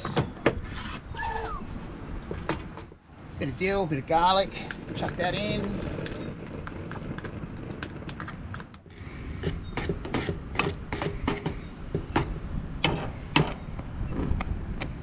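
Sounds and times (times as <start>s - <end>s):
low steady rumble: 0.6s - 15.0s.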